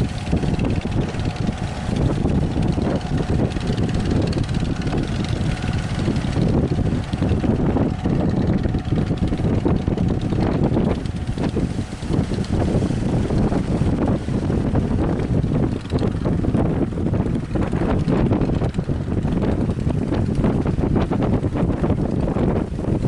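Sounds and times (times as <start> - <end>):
boat engines droning faintly: 0.0 - 23.0
wind buffeting microphone: 0.0 - 23.0.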